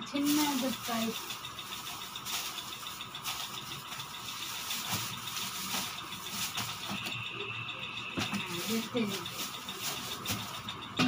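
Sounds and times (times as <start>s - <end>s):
thin steady tone: 0.1s - 11.0s.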